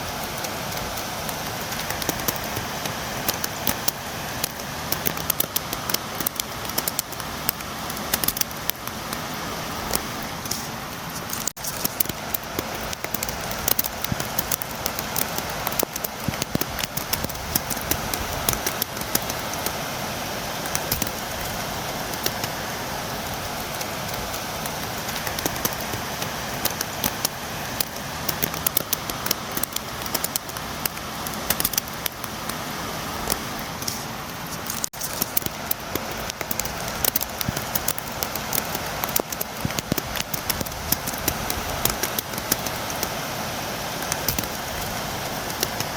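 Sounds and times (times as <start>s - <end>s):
rain hissing: 0.0s - 45.9s
raindrops tapping close by: 0.0s - 45.9s.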